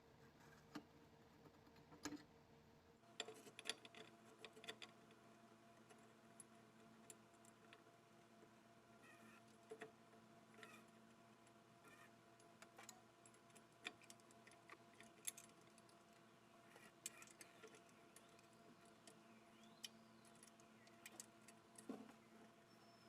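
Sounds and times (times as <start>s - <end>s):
low steady hum: 2.4s - 23.0s.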